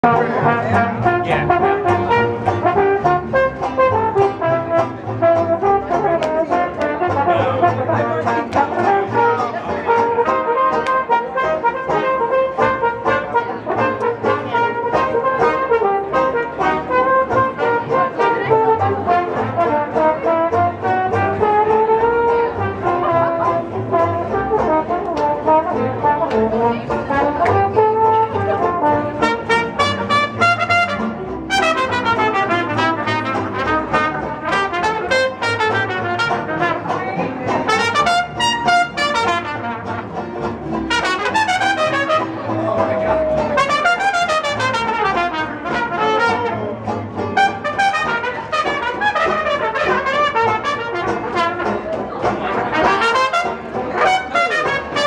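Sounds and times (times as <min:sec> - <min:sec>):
brass band playing jazz: 0:00.0 - 0:55.0.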